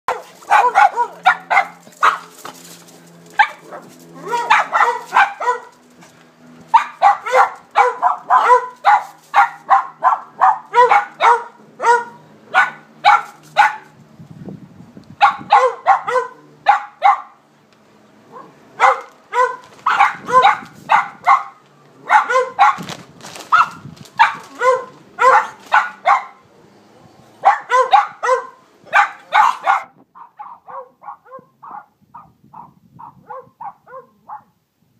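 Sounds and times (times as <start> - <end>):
dog barking: 0.1 - 2.3, 3.4 - 5.8, 6.7 - 13.9, 15.2 - 17.4, 18.3 - 22.9, 23.5 - 26.4, 27.4 - 34.5.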